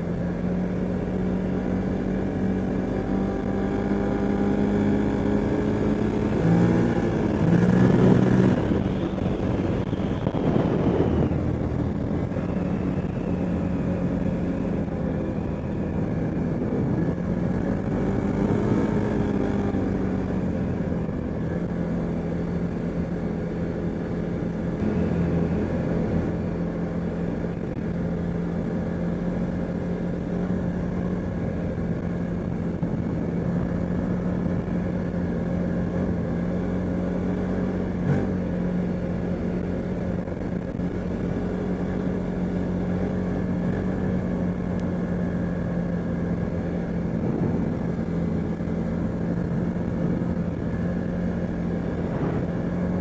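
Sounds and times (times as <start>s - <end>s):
atv engine revving: 0.0s - 53.0s.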